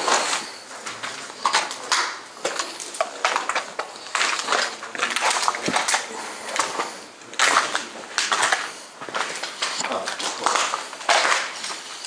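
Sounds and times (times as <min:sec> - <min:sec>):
footsteps crunching over debris: 0:00.0 - 0:12.0.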